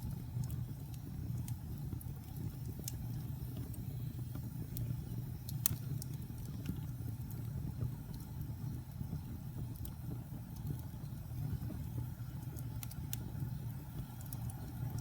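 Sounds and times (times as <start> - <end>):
low rumble of fire: 0.0 - 15.0
wood fire crackling and popping: 0.0 - 15.0.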